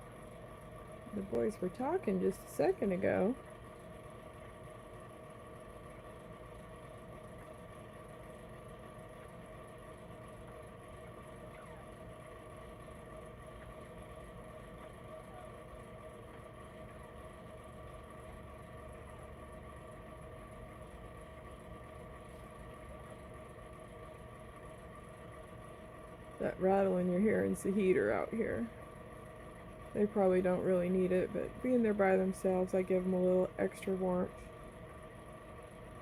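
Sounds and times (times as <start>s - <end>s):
heater rattling and humming: 0.0s - 36.0s.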